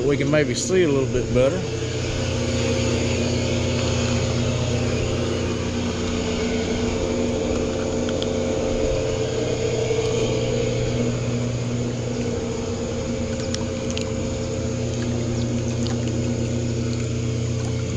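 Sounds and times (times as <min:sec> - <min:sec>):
hot tub pump humming: 0:00.0 - 0:17.9
water churning and bubbling: 0:00.0 - 0:17.9.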